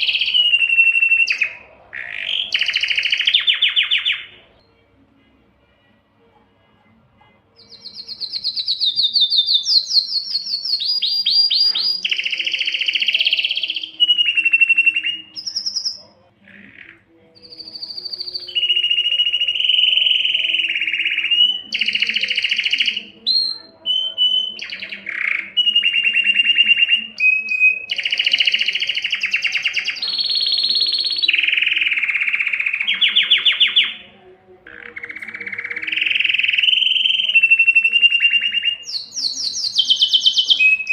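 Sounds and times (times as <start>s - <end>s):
canary singing trills: 0.0s - 6.0s, 6.6s - 40.9s.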